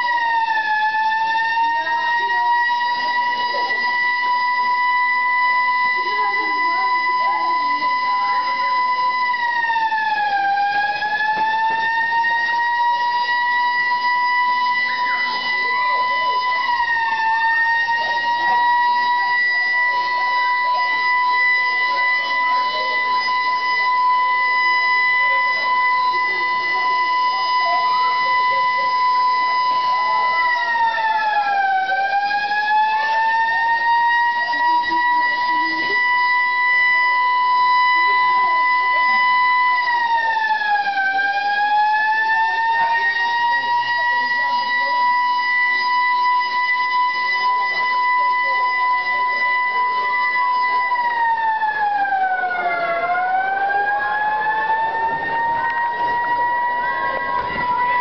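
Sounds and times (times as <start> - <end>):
alarm siren steady tone: 0.0 - 58.0
faint voices: 0.0 - 58.0.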